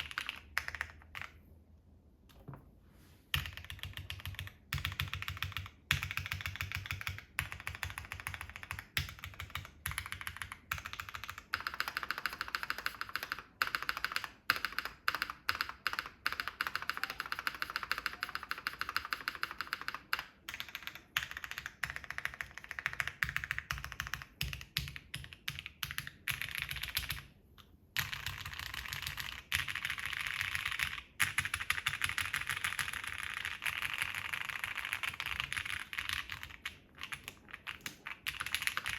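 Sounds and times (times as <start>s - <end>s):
mechanical keyboard typing: 0.0s - 1.5s, 3.3s - 38.9s.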